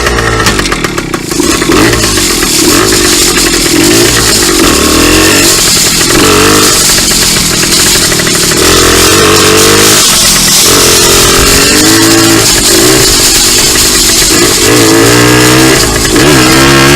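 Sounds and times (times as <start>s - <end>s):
two-stroke dirt bike engine revving: 0.0s - 16.9s.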